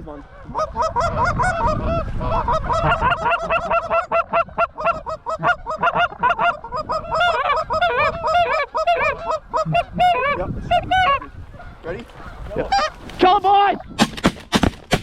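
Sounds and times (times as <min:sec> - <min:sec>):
geese honking: 0:00.1 - 0:14.2.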